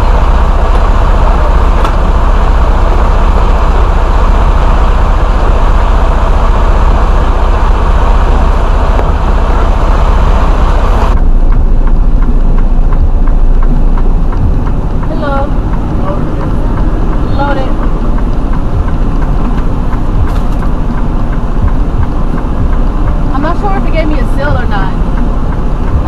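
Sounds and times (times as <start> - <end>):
truck engine rumble: 0.0 - 26.0.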